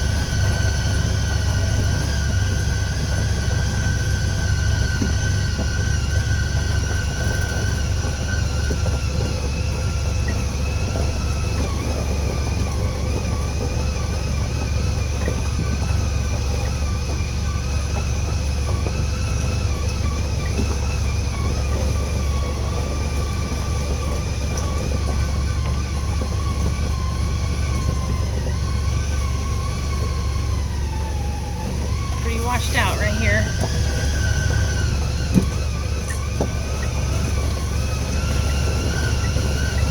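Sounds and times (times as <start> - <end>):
vehicle engine and road rumble: 0.0 - 32.3.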